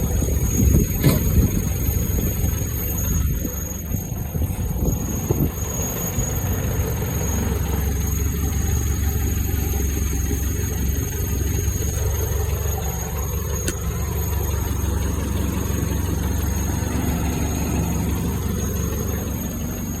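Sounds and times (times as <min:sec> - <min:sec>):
engine idling: 0:00.0 - 0:20.0
squeak from engine bay: 0:00.3 - 0:20.0.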